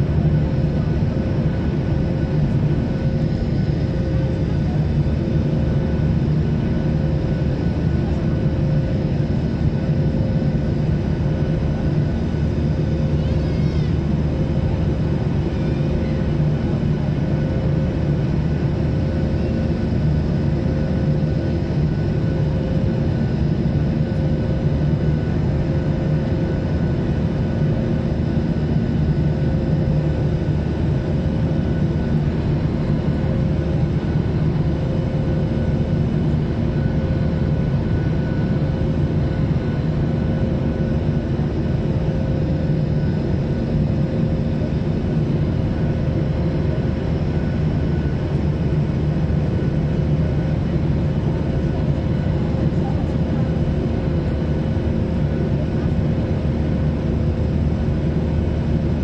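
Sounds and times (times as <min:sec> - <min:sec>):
jet airliner cabin drone: 0:00.0 - 0:59.0.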